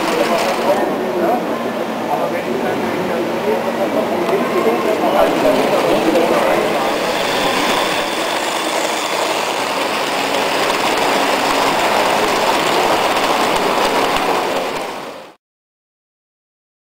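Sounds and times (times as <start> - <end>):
model train rattling on track: 0.0 - 1.5, 2.1 - 15.4.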